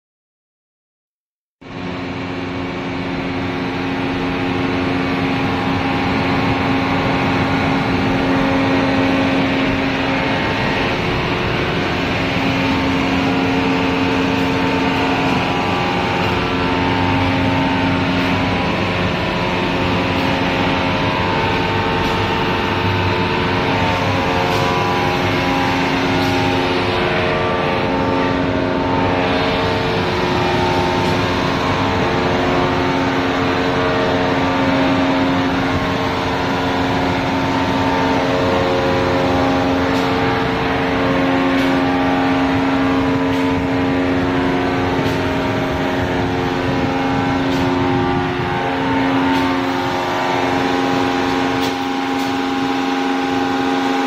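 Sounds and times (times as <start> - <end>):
machinery drone: 1.6 - 54.0.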